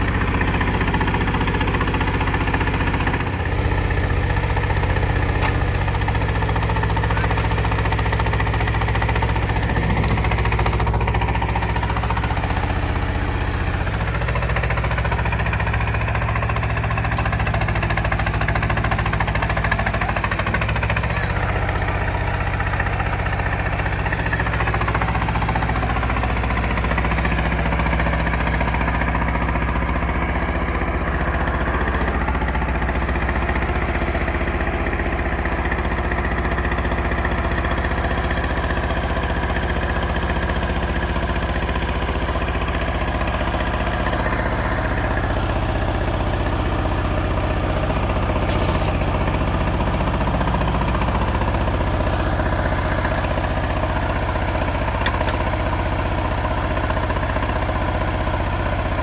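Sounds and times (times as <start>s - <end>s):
diesel truck engine running steadily: 0.0s - 59.0s.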